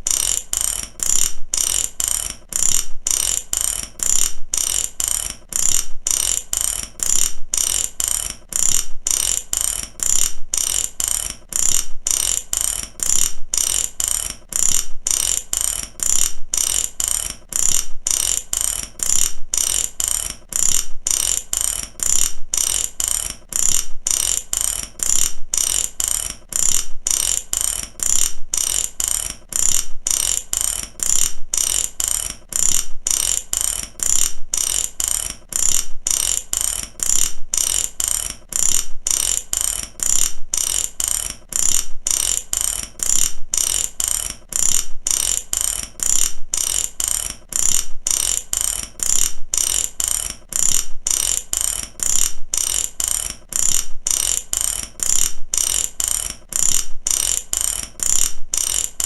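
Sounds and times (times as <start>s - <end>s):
ratchet wrench clicking: 0.0s - 59.0s.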